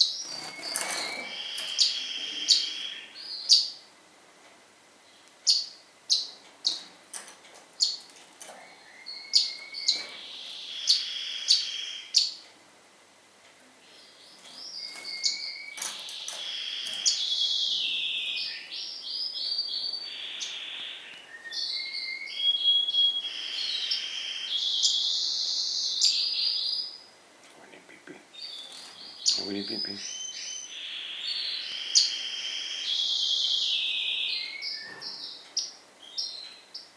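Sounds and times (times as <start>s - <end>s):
songbird chirping: 0.0s - 4.0s, 4.9s - 7.0s, 7.7s - 12.6s, 13.4s - 36.9s.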